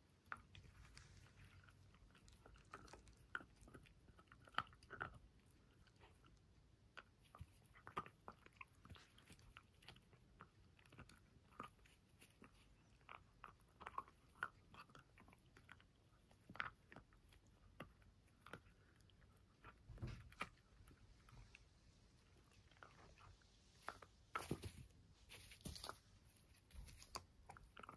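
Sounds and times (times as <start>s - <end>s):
dog chewing with teeth clicks: 0.1s - 24.8s, 25.4s - 27.9s.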